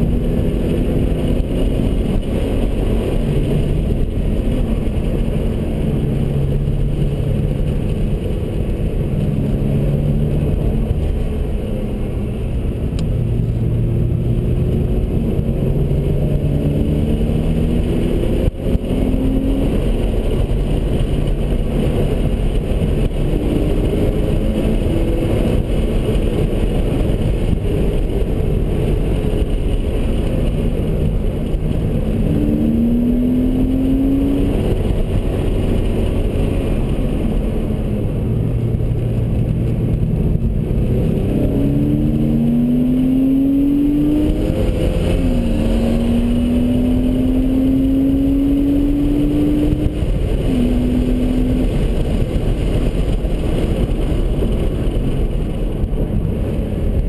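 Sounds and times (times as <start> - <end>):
road and wind noise: 0.0 - 57.0
sports car engine accelerating: 0.0 - 57.0.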